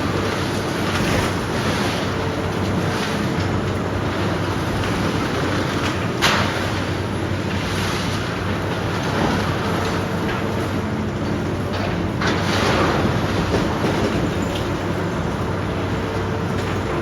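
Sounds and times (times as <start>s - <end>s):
demolition machinery engine hum: 0.0s - 17.0s.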